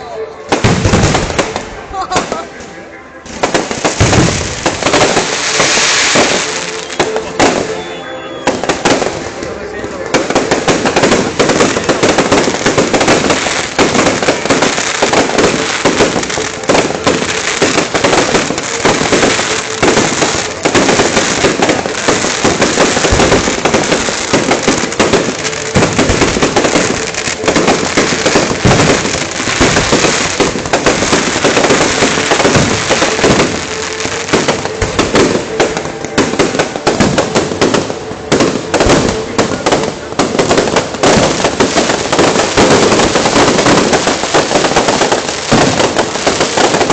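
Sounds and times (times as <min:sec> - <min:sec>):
heavy fireworks booms: 0:00.5 - 0:02.4, 0:03.3 - 0:46.9
fireworks crackling bangs: 0:00.5 - 0:46.9.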